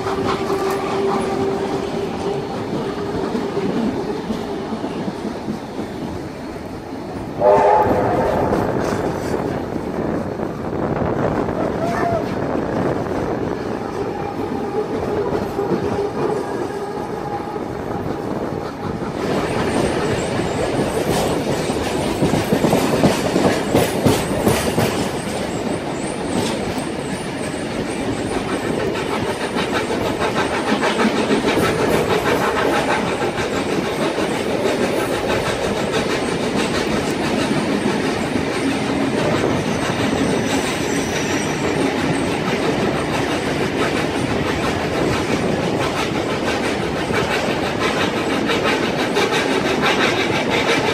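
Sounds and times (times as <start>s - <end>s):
train carriage rumbling: 0.0s - 50.9s.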